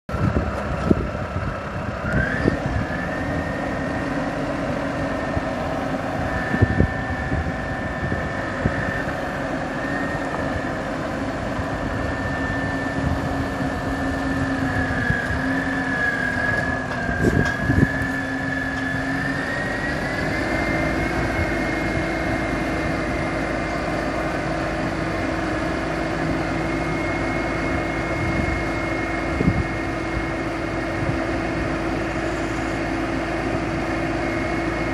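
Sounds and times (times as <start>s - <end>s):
diesel engine running: 0.1s - 34.9s
high whine: 0.1s - 34.9s.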